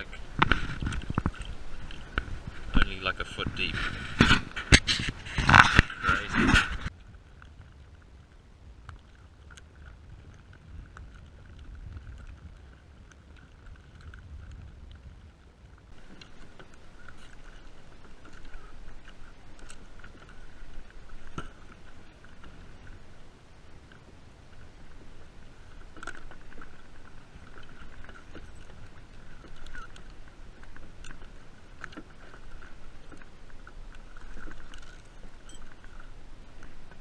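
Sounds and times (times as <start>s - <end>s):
waves lapping against a hull: 0.0s - 37.0s
wind rumble on microphone: 0.0s - 37.0s.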